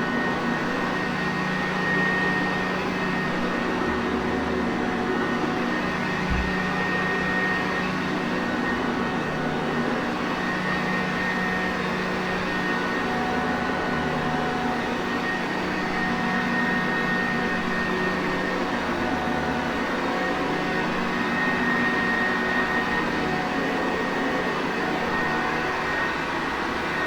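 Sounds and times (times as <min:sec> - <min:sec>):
vacuum cleaner motor running: 0:00.1 - 0:27.0.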